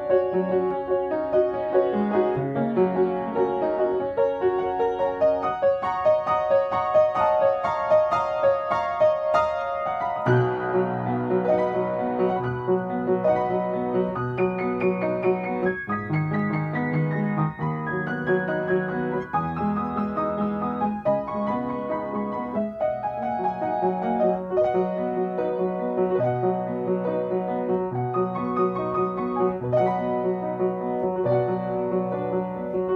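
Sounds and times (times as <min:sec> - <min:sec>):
solo piano: 0:00.0 - 0:32.9.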